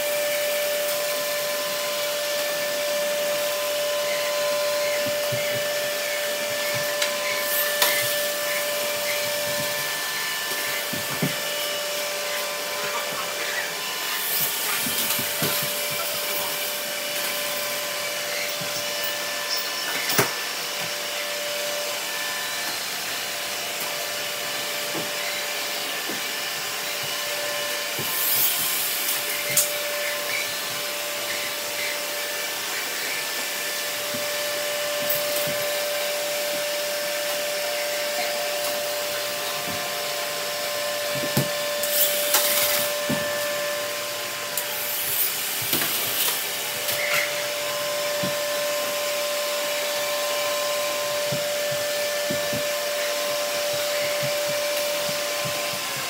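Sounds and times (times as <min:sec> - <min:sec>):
robot vacuums whirring: 0:00.0 - 0:56.0.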